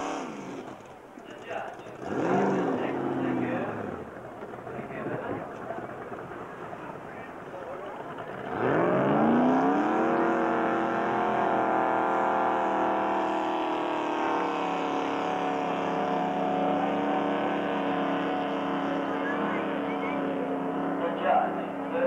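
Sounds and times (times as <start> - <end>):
powerboat engine revving: 0.0 - 22.0.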